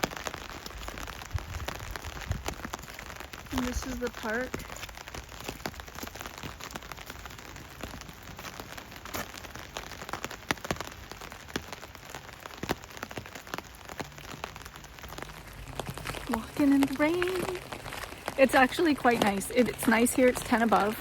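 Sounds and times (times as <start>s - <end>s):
rain on an umbrella: 0.0s - 21.0s.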